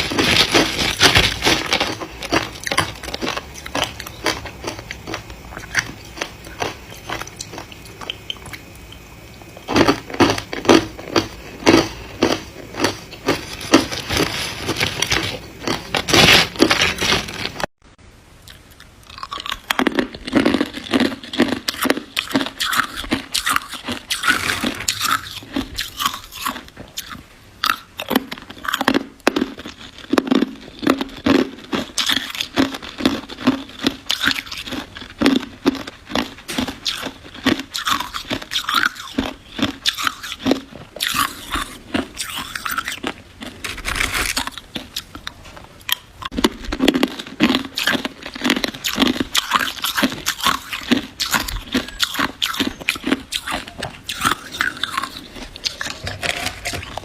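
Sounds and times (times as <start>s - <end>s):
ice crunching being chewed: 0.0s - 17.7s, 18.5s - 57.0s.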